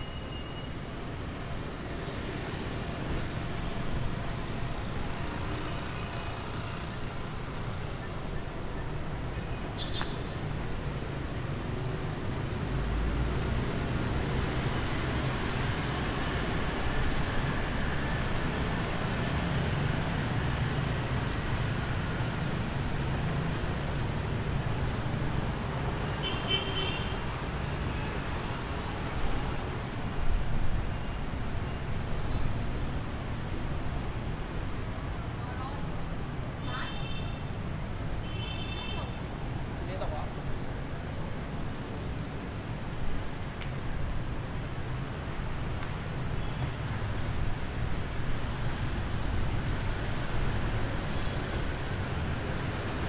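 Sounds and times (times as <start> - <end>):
motorbikes and cars passing: 0.8 - 53.0.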